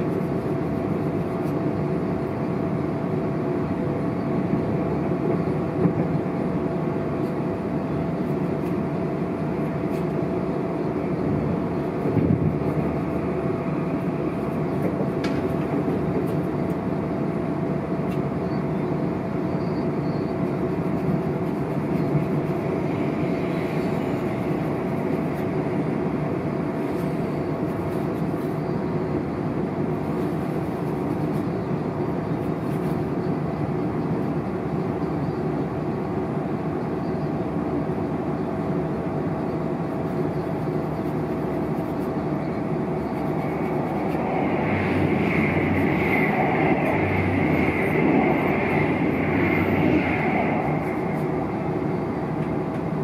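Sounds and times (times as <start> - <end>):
steady train whine: 0.0 - 53.0
train wheels rumbling on rails: 0.0 - 53.0.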